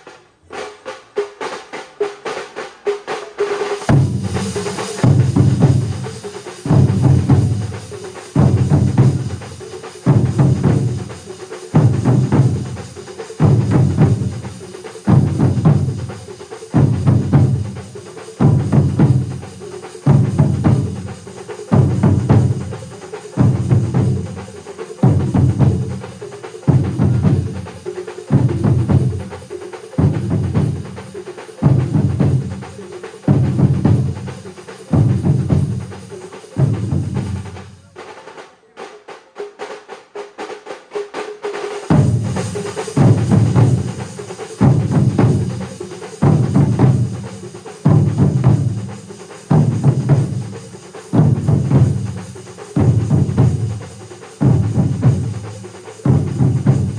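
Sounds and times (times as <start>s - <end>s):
light clicking drum strokes: 0.0s - 38.5s, 41.4s - 56.9s
drum ensemble playing: 0.0s - 56.9s.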